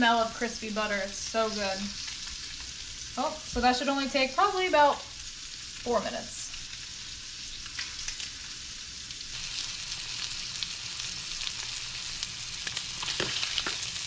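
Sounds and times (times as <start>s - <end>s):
fish fillets sizzling in butter: 0.0s - 14.0s.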